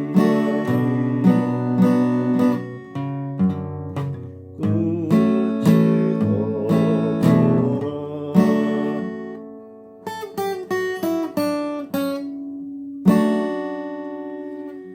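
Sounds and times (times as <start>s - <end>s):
acoustic guitar strumming and plucking: 0.0s - 14.9s.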